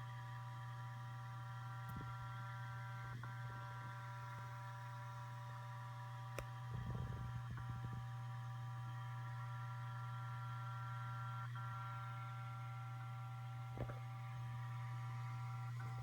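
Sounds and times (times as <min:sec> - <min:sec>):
hard drive buzzing and whining: 0:00.0 - 0:16.0.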